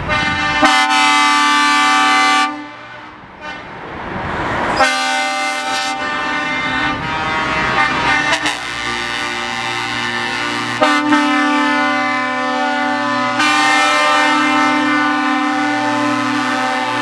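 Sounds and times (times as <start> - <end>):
truck air horns blowing: 0.0 - 3.8, 4.8 - 17.0.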